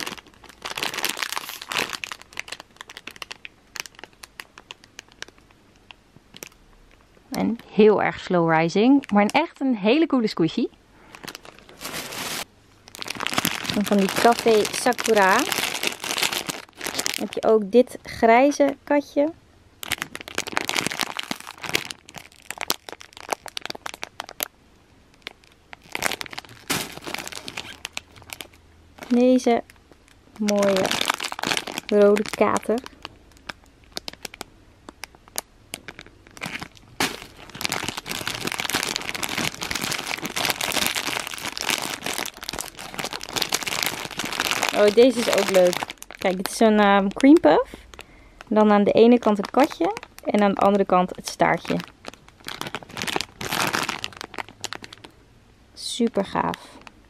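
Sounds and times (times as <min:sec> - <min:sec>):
plastic bag crinkling: 0:00.0 - 0:06.6, 0:07.3 - 0:09.6, 0:11.0 - 0:18.8, 0:19.8 - 0:24.5, 0:25.1 - 0:55.2.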